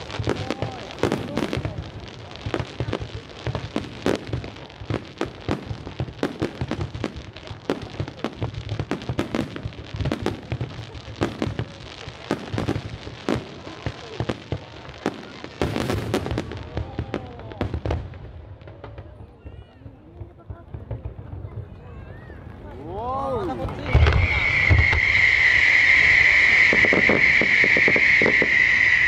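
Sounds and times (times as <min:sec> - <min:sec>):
fireworks bursts and bangs: 0:00.0 - 0:29.0.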